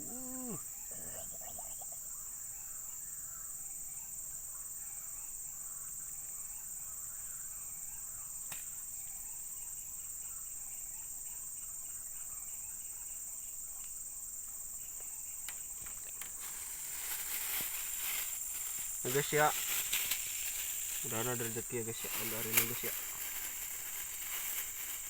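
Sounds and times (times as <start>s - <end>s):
faint insect chirps: 0.0s - 25.0s
insects droning: 0.0s - 25.0s.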